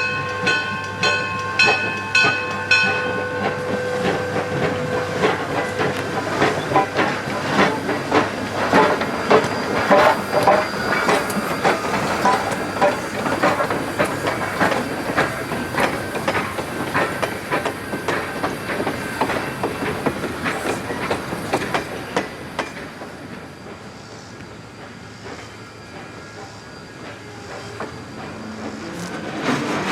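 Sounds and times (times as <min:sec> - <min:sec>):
train rumble: 0:00.0 - 0:29.9
train wheels clicking on rail joints: 0:00.0 - 0:29.9.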